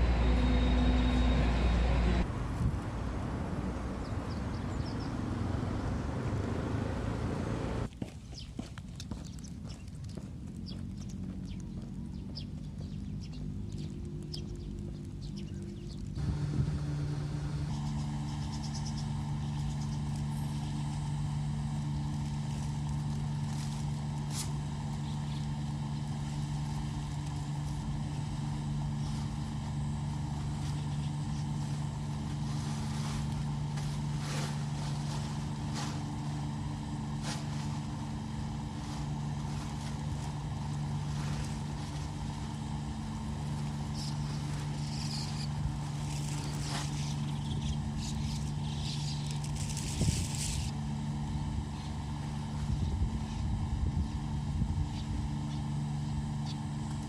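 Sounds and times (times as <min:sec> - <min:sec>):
motor drone: 0:00.0 - 0:07.9, 0:10.5 - 0:57.0.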